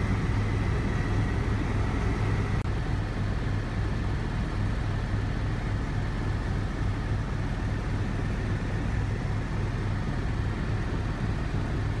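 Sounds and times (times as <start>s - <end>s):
helicopter rotor and engine hum: 0.0s - 12.0s.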